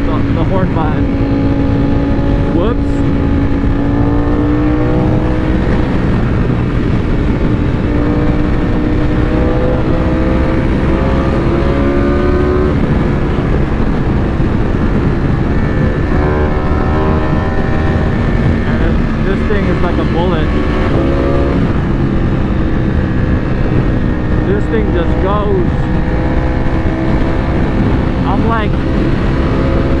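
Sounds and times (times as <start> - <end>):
motorcycle engine accelerating: 0.0 - 30.0
riding wind rush: 0.0 - 30.0.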